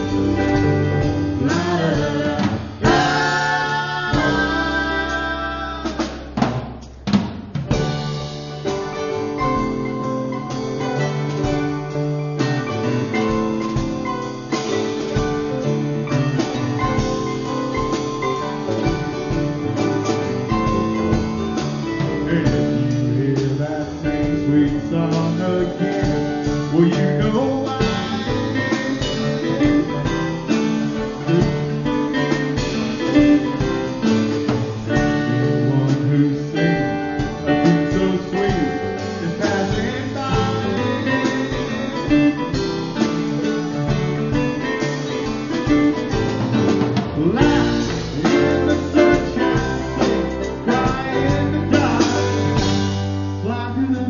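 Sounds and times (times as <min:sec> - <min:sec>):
live folk band playing: 0:00.0 - 0:54.0.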